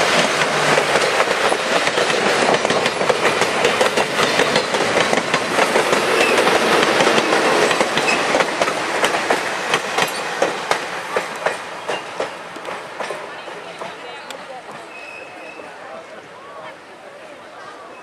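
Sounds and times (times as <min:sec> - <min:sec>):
train wheels clicking over rail joints: 0:00.0 - 0:15.7.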